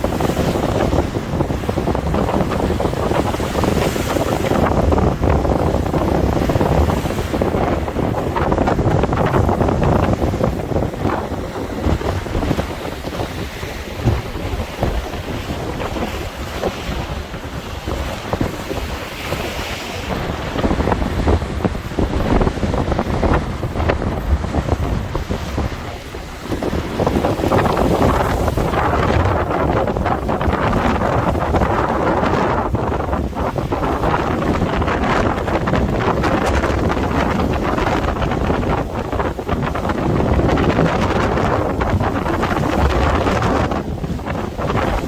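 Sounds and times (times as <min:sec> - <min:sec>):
gusty wind buffeting microphone: 0:00.0 - 0:45.0
waves breaking on shore: 0:00.0 - 0:45.0.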